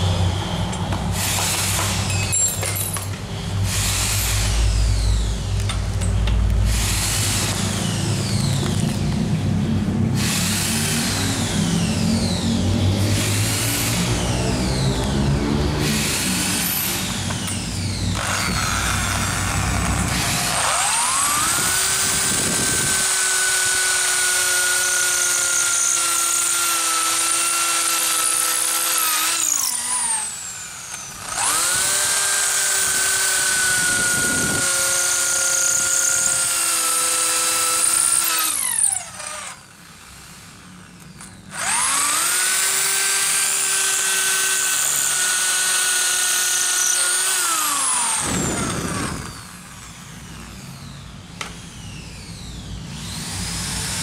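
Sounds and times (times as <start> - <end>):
electric drill grinding into stone: 1.2 - 3.0, 3.7 - 9.3, 10.2 - 54.0.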